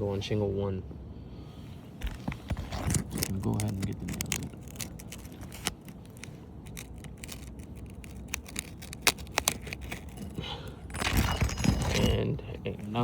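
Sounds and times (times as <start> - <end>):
metal tool scraping under shingles: 2.0 - 13.0.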